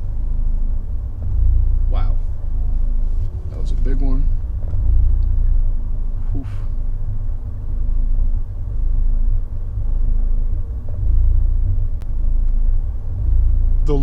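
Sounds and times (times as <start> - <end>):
car engine idling roughly: 0.0 - 14.0.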